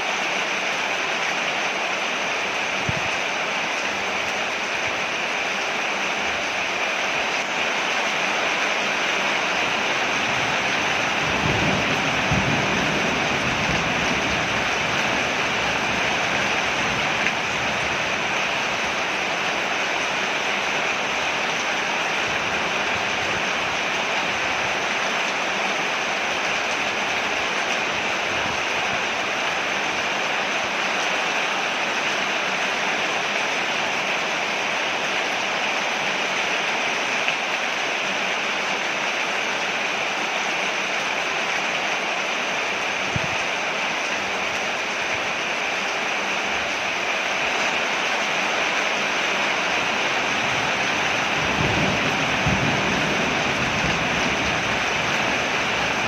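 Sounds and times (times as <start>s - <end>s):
heavy rain on a porch: 0.0s - 56.0s.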